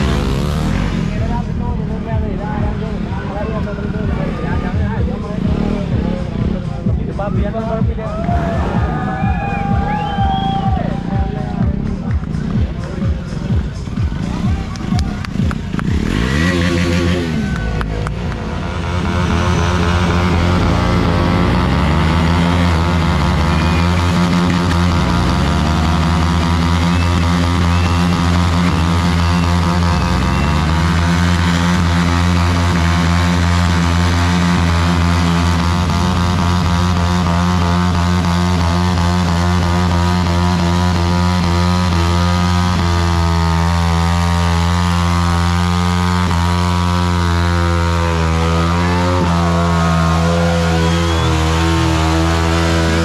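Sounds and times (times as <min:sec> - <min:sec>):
motorcycle engines revving high: 0:00.0 - 0:53.0.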